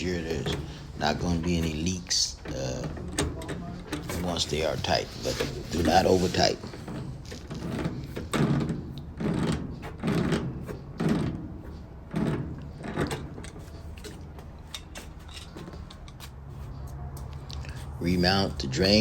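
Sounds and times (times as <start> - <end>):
tools knocking and scraping: 0.0 - 19.0.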